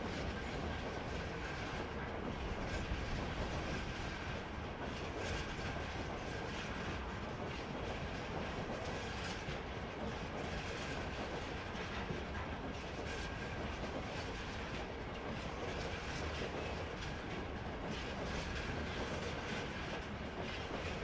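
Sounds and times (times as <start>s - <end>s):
clickety-clack over rail joints: 0.0s - 21.0s
train wheels rumbling on rails: 0.0s - 21.0s.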